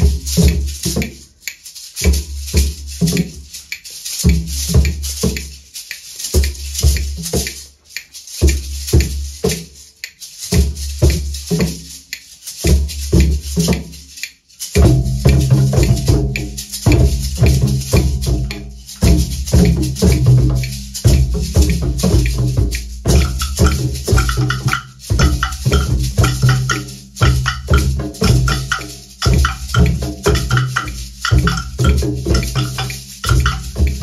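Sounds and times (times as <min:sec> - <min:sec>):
hand drums: 0:00.0 - 0:34.0
wooden xylophones played with mallets: 0:00.0 - 0:34.0.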